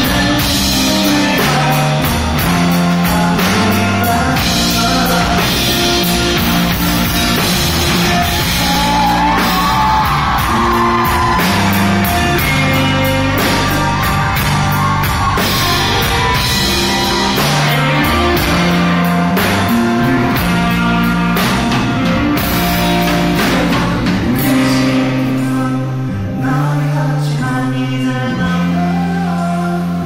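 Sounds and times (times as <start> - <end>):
drum kit: 0.0 - 26.0
electric bass: 0.0 - 30.0
electric guitar: 0.0 - 30.0.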